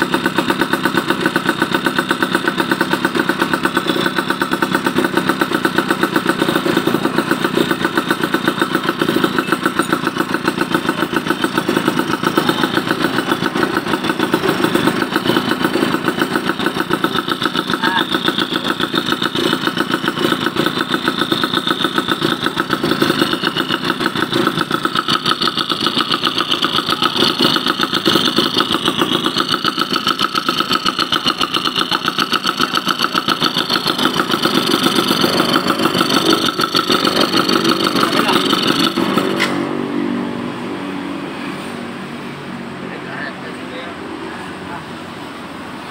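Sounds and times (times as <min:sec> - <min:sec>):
two-stroke engine idling: 0:00.0 - 0:45.9.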